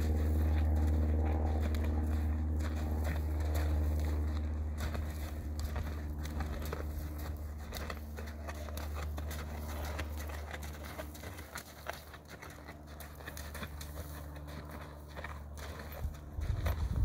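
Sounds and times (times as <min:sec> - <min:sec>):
horse hoofbeats on sand: 0:00.0 - 0:17.0
steady low rumble: 0:00.0 - 0:17.0.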